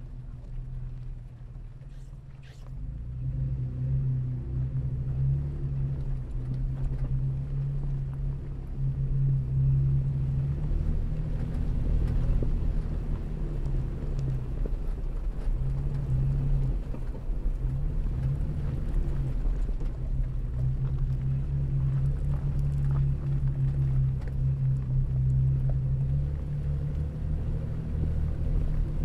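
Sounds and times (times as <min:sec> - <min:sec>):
off-road vehicle engine drone: 0:00.0 - 0:29.0.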